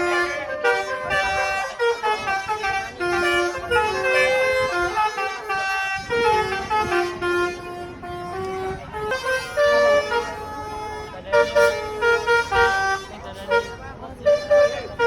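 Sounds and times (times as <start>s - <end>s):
bus melody horn playing tune: 0.0s - 15.0s.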